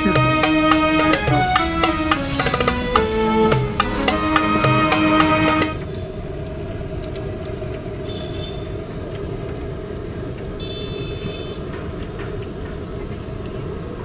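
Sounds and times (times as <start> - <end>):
passing traffic rumble: 0.0 - 14.0.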